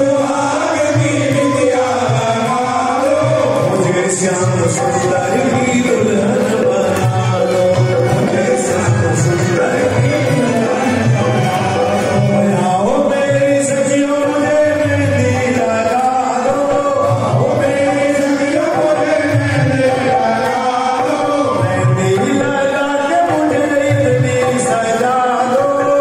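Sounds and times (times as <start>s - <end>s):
devotional singing: 0.0s - 26.0s.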